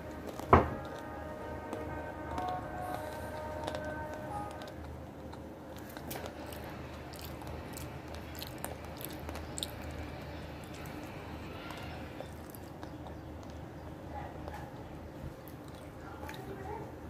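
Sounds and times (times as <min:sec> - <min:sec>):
gas burner rumble: 0:00.0 - 0:17.0.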